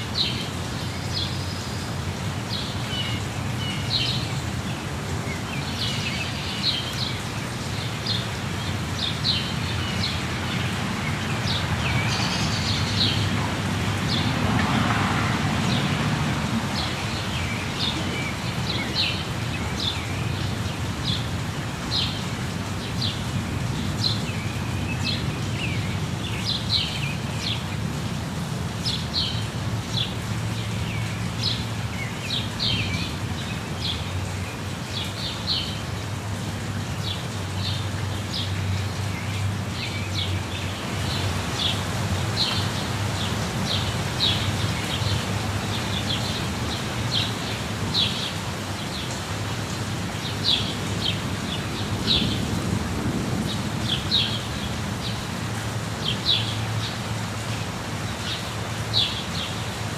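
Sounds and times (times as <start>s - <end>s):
falling water rushing: 0.0s - 59.9s
songbirds chirping: 0.0s - 59.9s.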